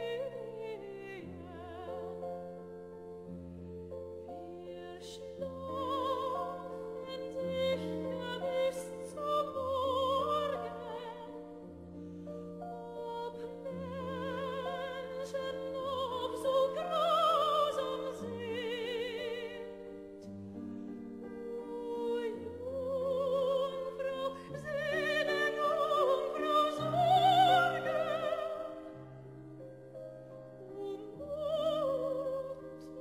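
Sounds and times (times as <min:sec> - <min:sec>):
opera singer with vibrato: 0:00.0 - 0:02.6, 0:04.3 - 0:11.5, 0:12.6 - 0:20.0, 0:21.3 - 0:29.1, 0:30.6 - 0:33.0.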